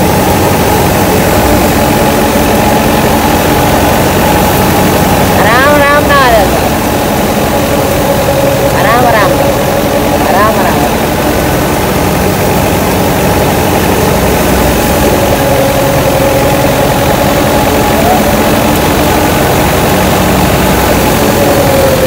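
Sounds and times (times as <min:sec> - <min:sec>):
thresher machine droning: 0:00.0 - 0:22.0.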